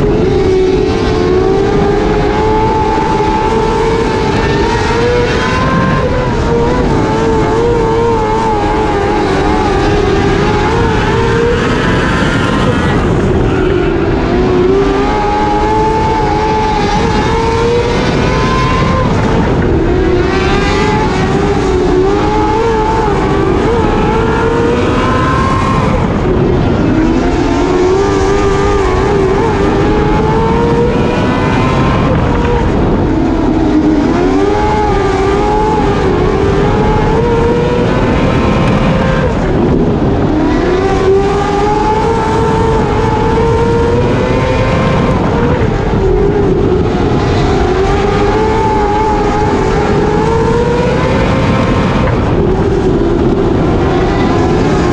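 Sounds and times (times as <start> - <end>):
racing car engine revving: 0.0 - 54.9
wind and road noise: 0.0 - 54.9.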